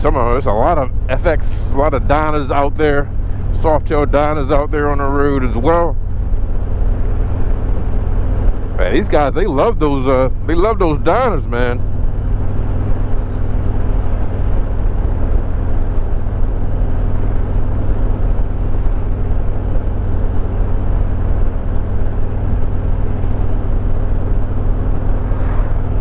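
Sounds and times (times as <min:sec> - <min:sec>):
motorcycle engine cruising: 0:00.0 - 0:26.0
wind and road noise: 0:00.0 - 0:26.0.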